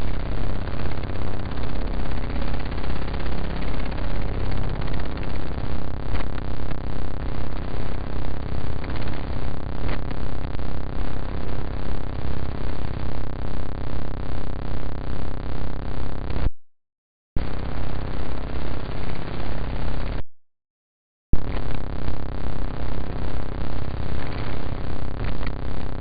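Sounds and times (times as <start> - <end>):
pulsing noisy electronic drone: 0.0 - 16.5, 17.4 - 20.2, 21.4 - 26.0.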